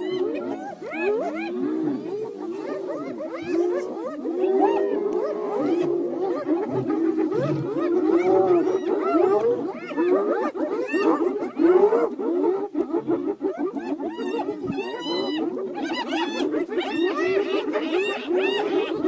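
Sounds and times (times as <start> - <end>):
chorus of animal calls: 0.0 - 19.0.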